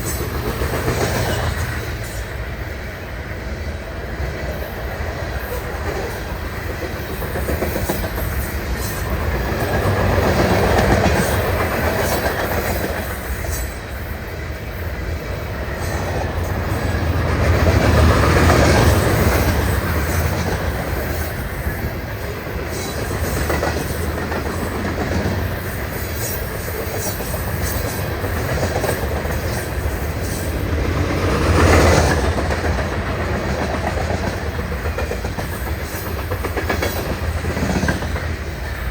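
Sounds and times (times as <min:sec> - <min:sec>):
train wheels clacking on rail joints: 0:00.0 - 0:02.4, 0:04.3 - 0:38.9
train rumbling past: 0:00.0 - 0:38.9.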